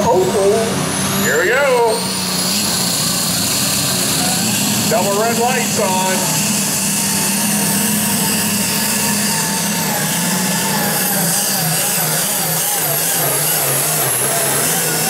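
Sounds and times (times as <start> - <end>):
diesel engine under load: 0.0 - 15.0
high whine: 0.0 - 15.0.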